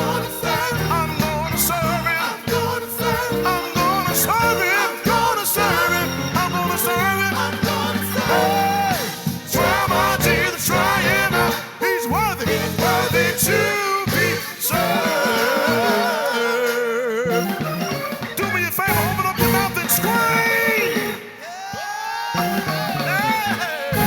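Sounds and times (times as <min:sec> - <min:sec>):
person singing wordless runs: 0:00.0 - 0:22.0
band playing gospel: 0:00.0 - 0:24.0.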